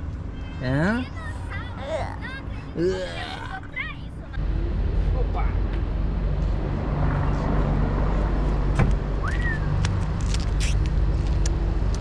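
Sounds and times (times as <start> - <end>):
car engine hum from cabin: 0.0 - 12.0.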